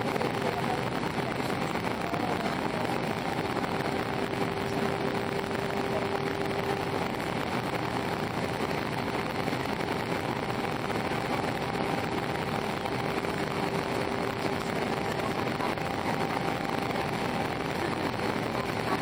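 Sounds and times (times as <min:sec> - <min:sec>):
faint steady hum: 0:00.0 - 0:19.0
jet engine roar in cabin: 0:00.0 - 0:19.0.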